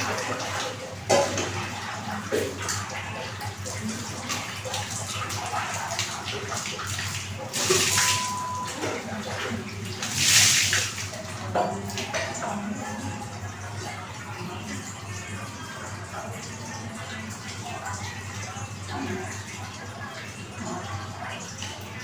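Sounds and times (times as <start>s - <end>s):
water pouring: 0.0s - 22.0s
water splashing in wash tub: 0.0s - 22.0s.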